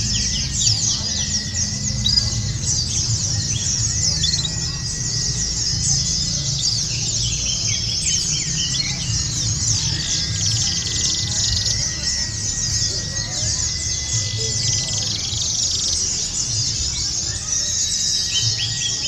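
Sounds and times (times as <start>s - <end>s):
birds twittering in chorus: 0.0s - 19.0s.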